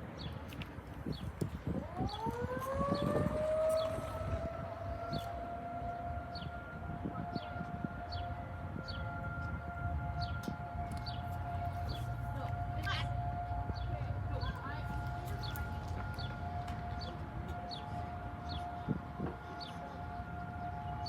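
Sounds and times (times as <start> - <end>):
warning siren rising tone: 1.7 - 21.0.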